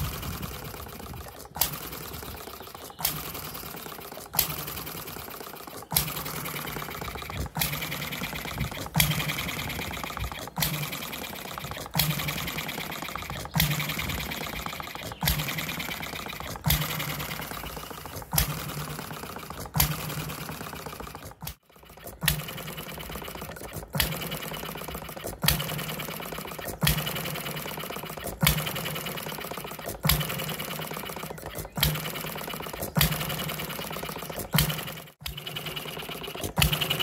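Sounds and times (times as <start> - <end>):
engine mechanism clattering: 0.0 - 37.0.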